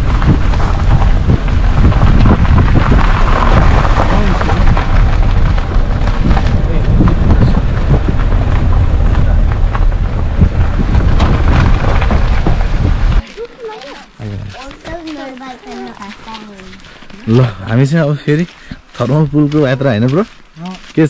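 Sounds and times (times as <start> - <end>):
scattered crackles: 0.0 - 21.0
wind buffeting microphone: 0.0 - 21.0.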